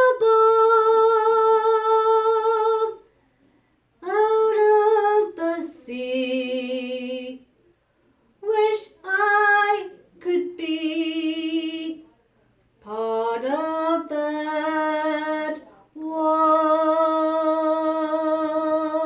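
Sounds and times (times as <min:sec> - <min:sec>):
woman singing unaccompanied: 0:00.0 - 0:03.1, 0:04.0 - 0:07.5, 0:08.4 - 0:12.1, 0:12.8 - 0:19.0.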